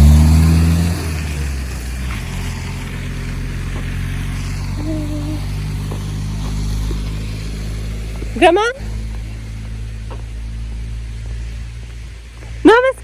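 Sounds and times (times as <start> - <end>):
vehicle engine low hum: 0.0 - 13.0.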